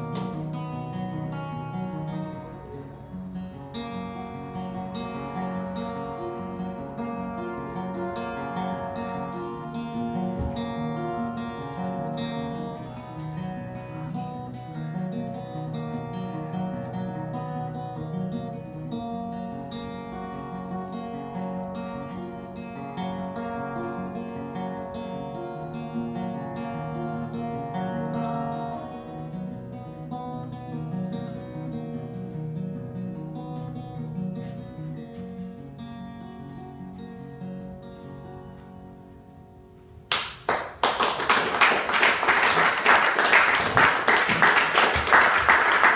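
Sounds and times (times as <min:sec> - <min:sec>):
acoustic guitar picking and strumming: 0:00.0 - 0:45.9.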